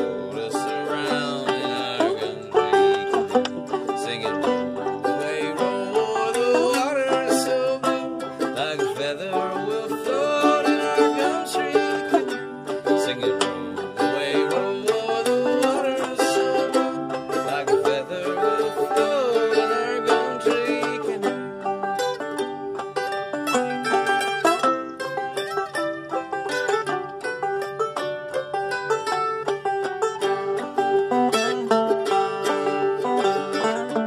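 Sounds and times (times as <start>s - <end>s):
fiddle playing sliding melody: 0.0s - 34.0s
plucked banjo: 0.0s - 34.0s.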